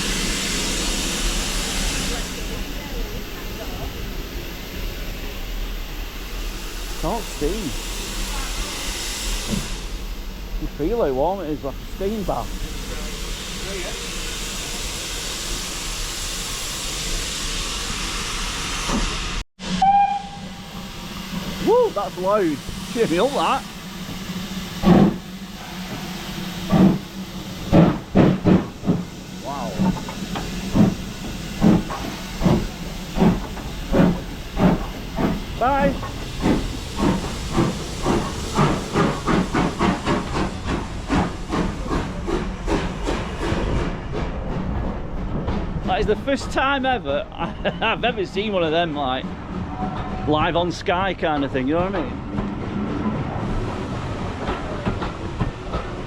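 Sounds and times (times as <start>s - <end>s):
steam locomotive venting steam: 0.0s - 56.0s.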